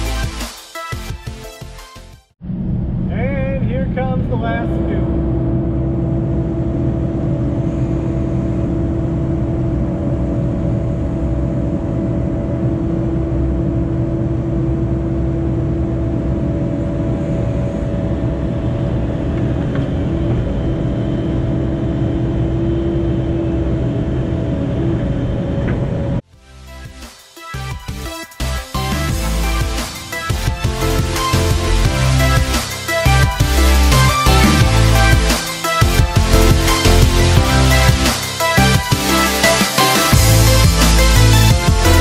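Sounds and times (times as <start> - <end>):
diesel engine running with whine: 2.4 - 27.0, 27.6 - 42.0.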